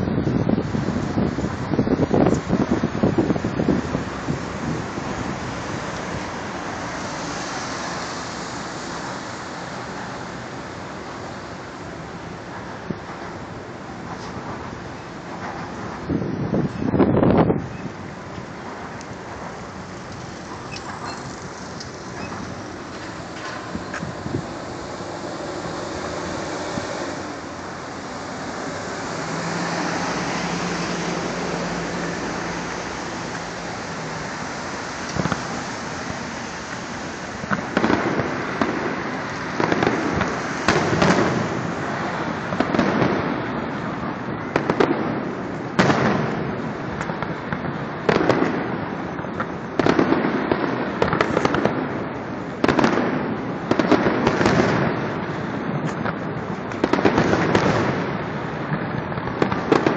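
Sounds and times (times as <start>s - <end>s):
fireworks bangs: 0.0s - 59.9s
steady background noise: 0.0s - 59.9s.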